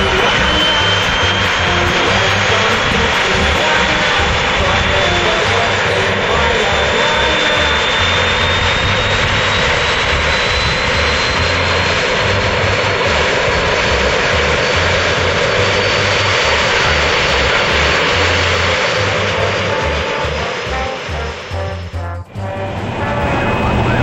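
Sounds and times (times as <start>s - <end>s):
high engine whine rising: 0.0s - 24.0s
turbine engine rushing: 0.0s - 24.0s.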